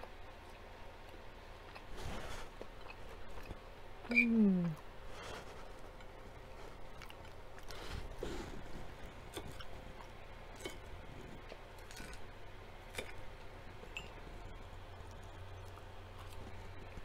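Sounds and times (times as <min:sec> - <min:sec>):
crunchy chewing: 0:00.4 - 0:04.2, 0:04.8 - 0:17.0.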